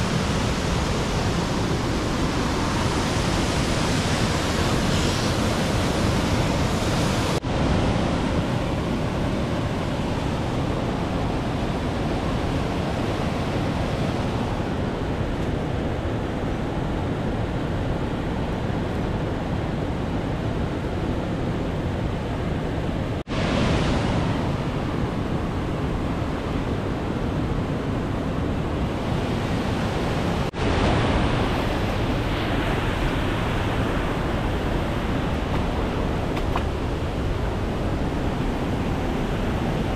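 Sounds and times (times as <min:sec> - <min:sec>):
mountain stream and waterfall rushing: 0:00.0 - 0:15.3, 0:23.2 - 0:39.9.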